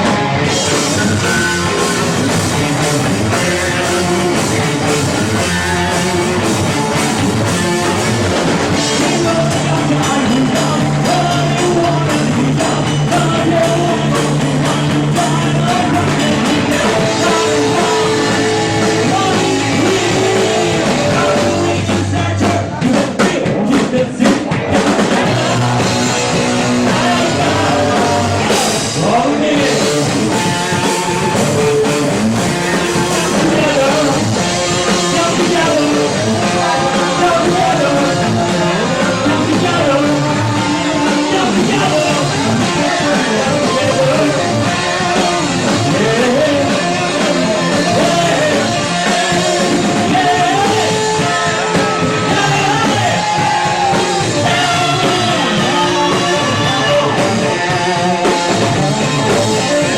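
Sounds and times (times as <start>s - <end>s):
live rock band with singer: 0.0s - 59.9s.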